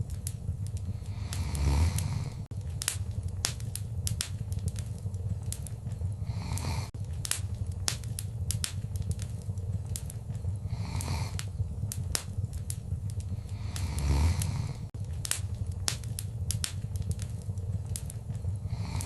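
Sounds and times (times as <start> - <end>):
fire hiss: 0.0 - 19.0
low rumble of flames: 0.0 - 19.0
wood fire crackling and popping: 0.0 - 19.0.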